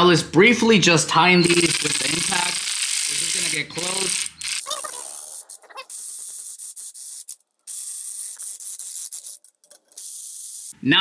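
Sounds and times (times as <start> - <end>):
impact wrench rattling: 1.5 - 10.7.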